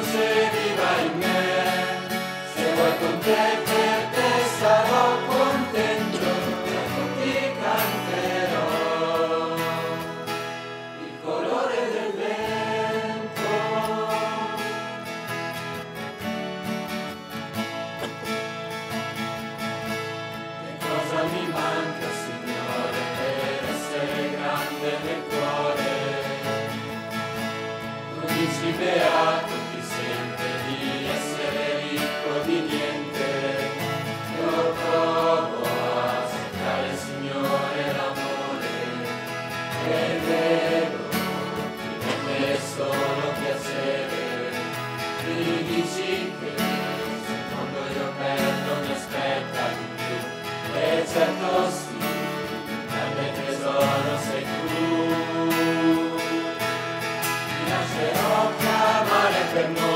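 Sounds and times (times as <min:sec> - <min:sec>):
young choir singing a hymn: 0:00.0 - 0:15.8, 0:20.3 - 0:59.9
strummed acoustic guitar: 0:00.0 - 0:59.9.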